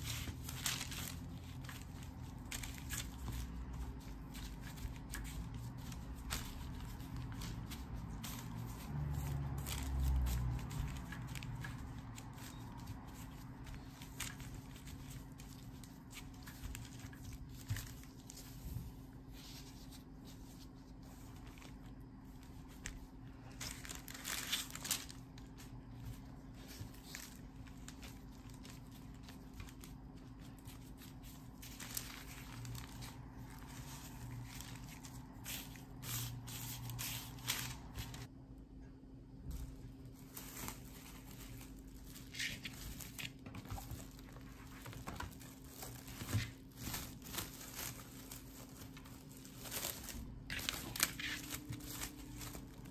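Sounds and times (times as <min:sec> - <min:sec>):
paper and gloves crinkling: 0:00.0 - 0:38.3, 0:39.5 - 0:52.9
faint steady hum: 0:00.0 - 0:52.9.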